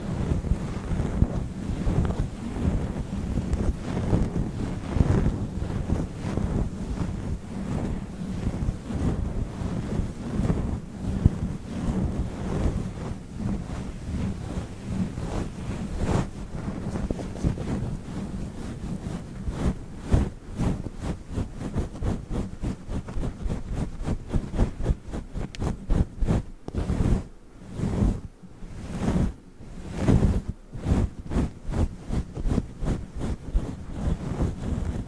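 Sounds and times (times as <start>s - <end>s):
microphone windscreen rubbing: 0.0s - 35.0s.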